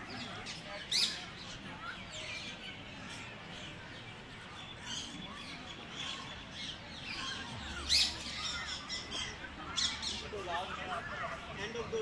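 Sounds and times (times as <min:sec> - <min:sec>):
chorus of birds chirping: 0:00.0 - 0:12.0.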